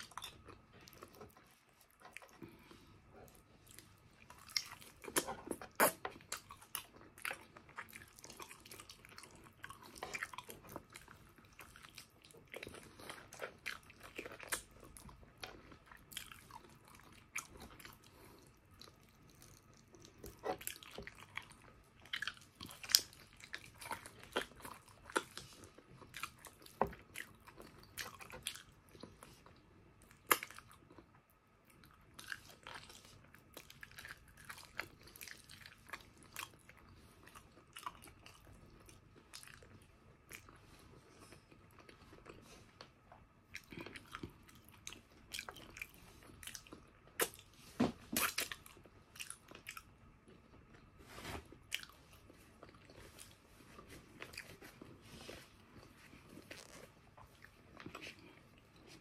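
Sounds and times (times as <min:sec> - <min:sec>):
close chewing and biting: 0:00.0 - 0:59.0.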